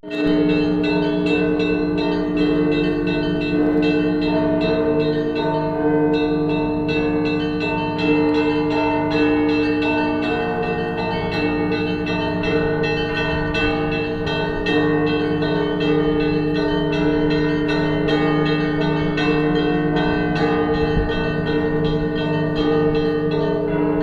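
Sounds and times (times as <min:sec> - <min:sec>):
hum of large bells: 0:00.0 - 0:24.0
small church bells struck rapidly: 0:00.0 - 0:24.0.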